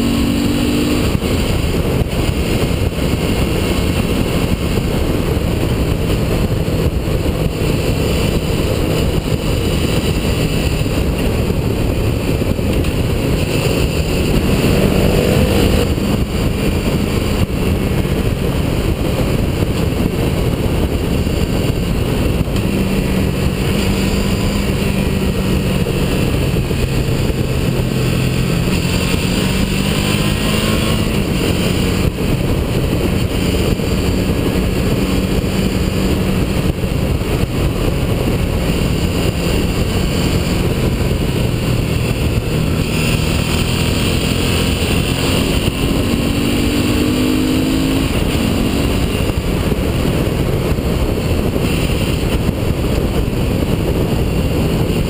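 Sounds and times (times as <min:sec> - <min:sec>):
motorcycle engine: 0:00.0 - 0:55.0
wind rush on microphone: 0:00.0 - 0:55.0.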